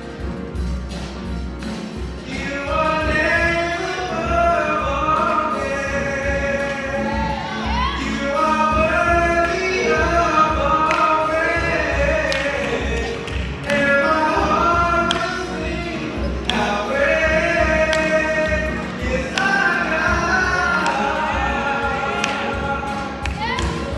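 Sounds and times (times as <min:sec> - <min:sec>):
steady low beat: 0:00.0 - 0:23.9
choir-like singing: 0:02.3 - 0:23.9.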